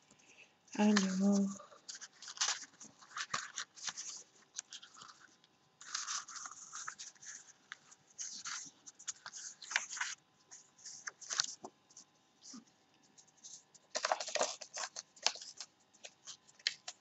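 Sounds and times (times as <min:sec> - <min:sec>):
paper rustling on wooden table: 0:00.8 - 0:10.2, 0:10.8 - 0:11.7, 0:13.4 - 0:17.0.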